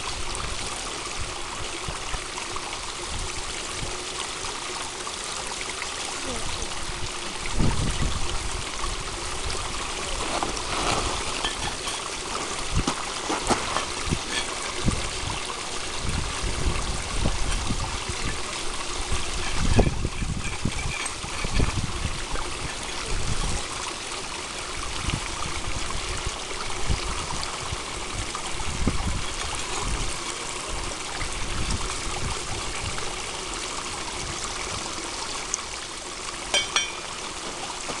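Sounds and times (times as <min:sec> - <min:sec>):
stream trickling: 0:00.0 - 0:38.0.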